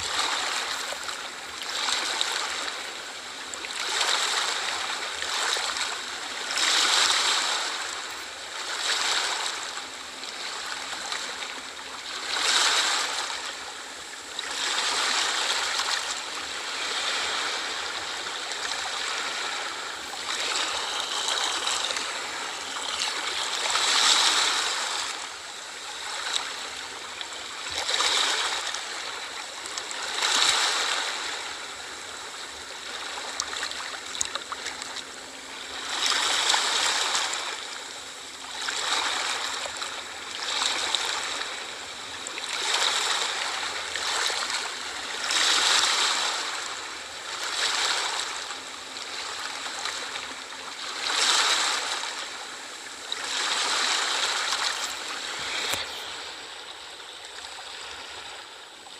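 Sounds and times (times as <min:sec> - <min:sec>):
small sea waves washing: 0:00.0 - 0:58.9.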